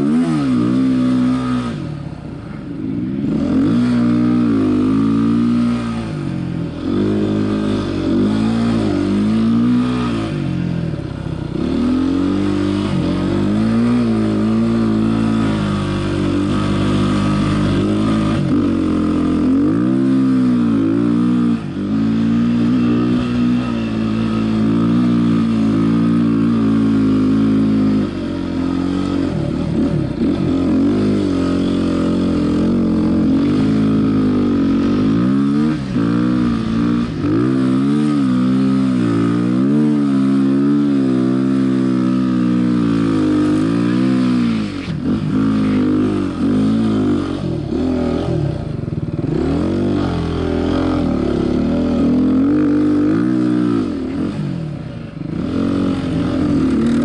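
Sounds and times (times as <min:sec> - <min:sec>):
off-road motorcycle engine revving: 0:00.0 - 0:57.0.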